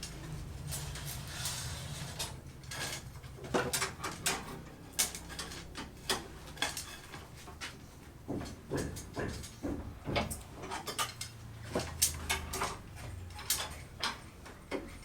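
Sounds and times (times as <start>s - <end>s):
hard objects clinking and knocking: 0.0s - 15.0s.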